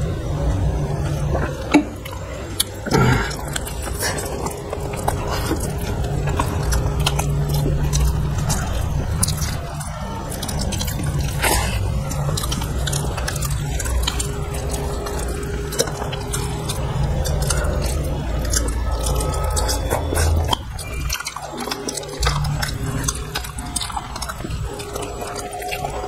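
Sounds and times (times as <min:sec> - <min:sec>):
low hum: 0:00.0 - 0:26.0
people chewing food: 0:00.0 - 0:26.0.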